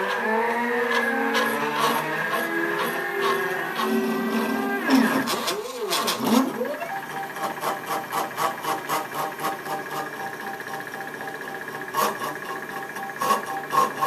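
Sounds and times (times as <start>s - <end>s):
stepper motors whining: 0.0s - 14.0s.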